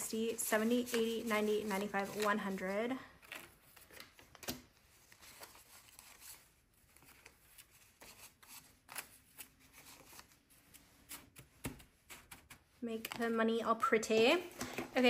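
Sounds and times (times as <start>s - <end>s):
banknotes rustling: 0.0s - 13.3s.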